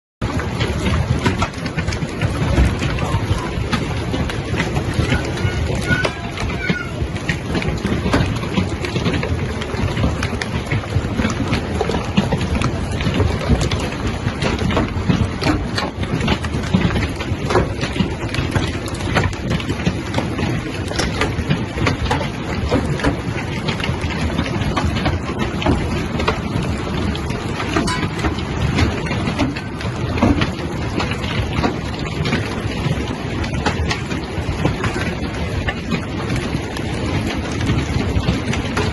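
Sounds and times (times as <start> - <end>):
hail clattering: 0.2 - 38.9.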